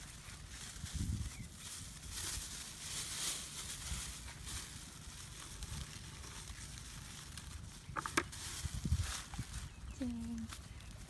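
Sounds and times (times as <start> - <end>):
fire crackling and hissing: 0.0 - 11.0.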